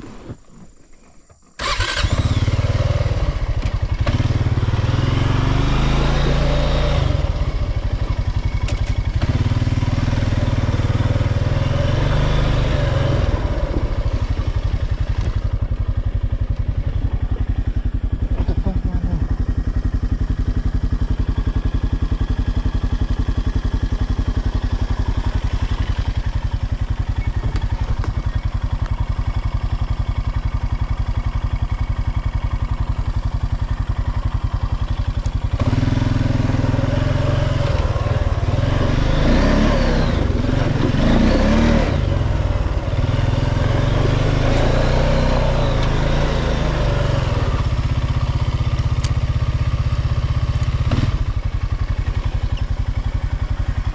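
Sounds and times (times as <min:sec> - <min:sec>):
atv engine running: 0:01.3 - 0:53.9.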